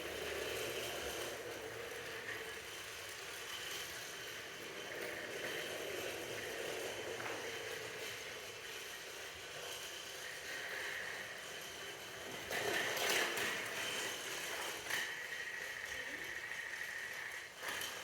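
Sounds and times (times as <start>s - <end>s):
toy train clatter: 0.0s - 18.0s
toy train whirring: 0.0s - 18.0s.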